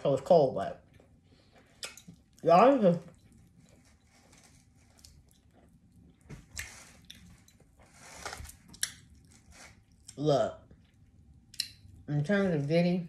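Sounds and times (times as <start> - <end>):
person chewing food: 0.7 - 12.0.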